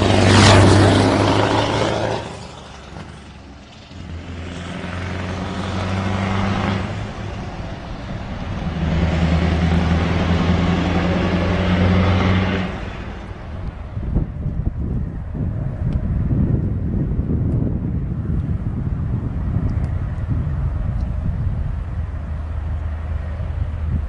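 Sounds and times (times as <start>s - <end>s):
diesel truck engine drone: 0.0s - 24.0s
wind rumble on microphone: 0.0s - 24.0s.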